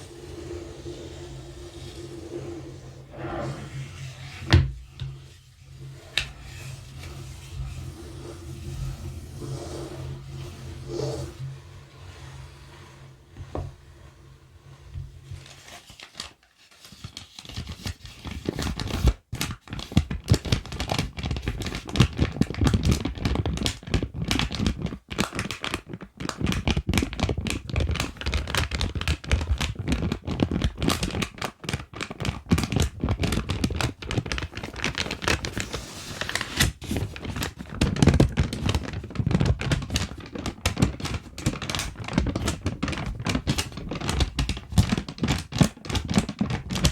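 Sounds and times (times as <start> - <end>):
material crinkling and crackling: 0.0 - 46.9.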